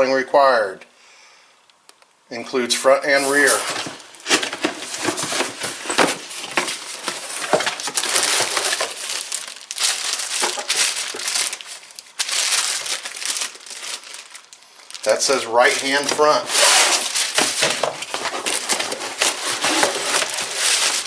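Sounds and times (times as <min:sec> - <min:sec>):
packaging crinkling and rustling: 0:03.1 - 0:21.0.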